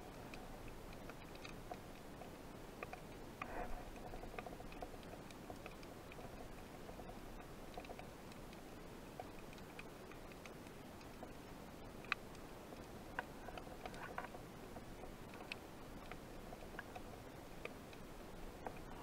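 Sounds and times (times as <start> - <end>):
low underwater hiss: 0.0 - 19.0
soft underwater clicks: 0.0 - 19.0.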